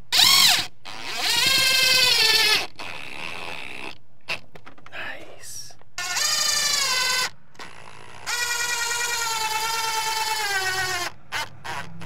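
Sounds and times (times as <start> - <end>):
power drill motor whine: 0.1 - 3.9, 6.0 - 11.9.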